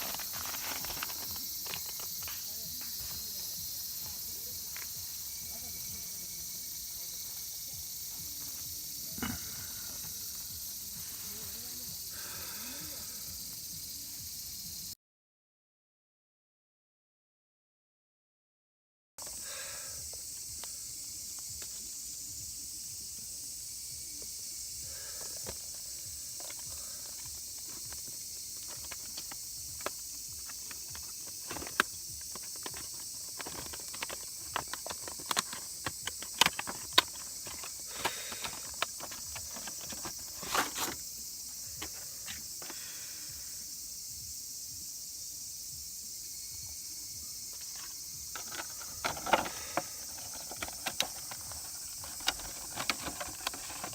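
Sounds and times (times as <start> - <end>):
insects buzzing: 0.0 - 15.0, 19.2 - 53.9.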